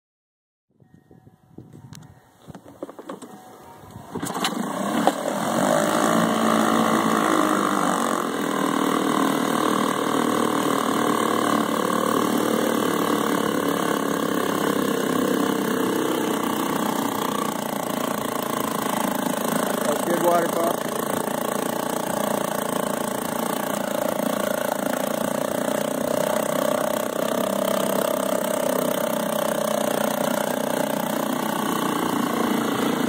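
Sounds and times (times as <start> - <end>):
outboard motor starting and running: 0.9 - 33.0
propeller churning water: 4.2 - 33.0.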